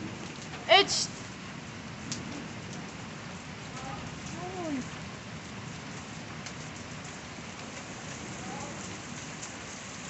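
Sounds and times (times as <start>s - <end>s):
rain falling on pavement: 0.0s - 10.0s.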